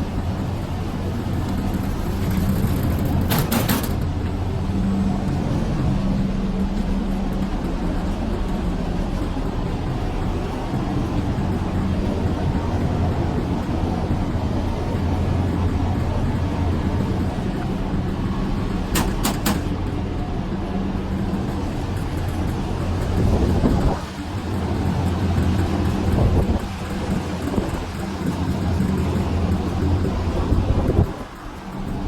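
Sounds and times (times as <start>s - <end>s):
low machine hum: 0.0s - 32.0s.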